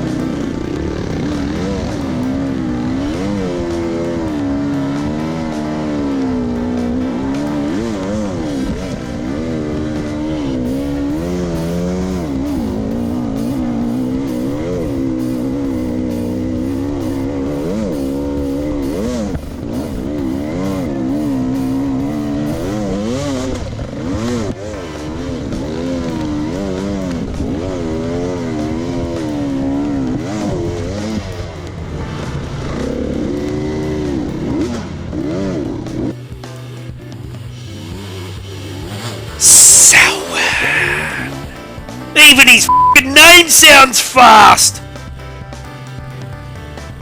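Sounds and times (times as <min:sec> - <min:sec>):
dirt bike engine revving: 0:00.0 - 0:42.1.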